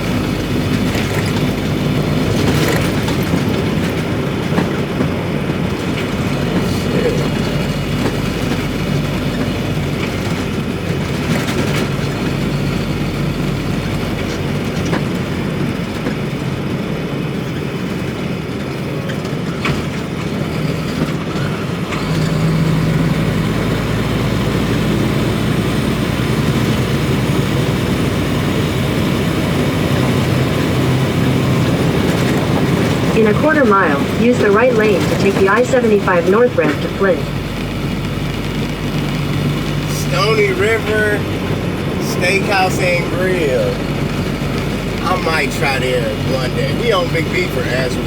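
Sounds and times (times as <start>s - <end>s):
road noise: 0.0s - 48.0s
truck diesel engine running: 0.0s - 48.0s.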